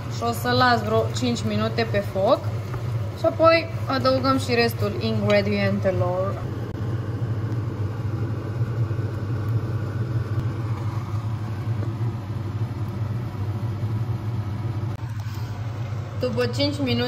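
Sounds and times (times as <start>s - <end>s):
food sizzling and bubbling: 0.0s - 17.0s
kitchen appliance humming: 0.0s - 17.0s.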